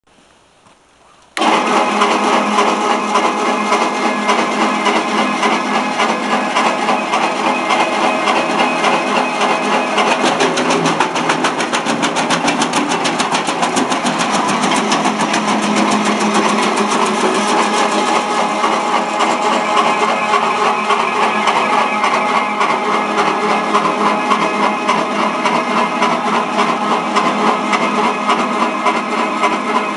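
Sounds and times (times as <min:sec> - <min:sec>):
wood chipper motor running: 0:01.4 - 0:29.9.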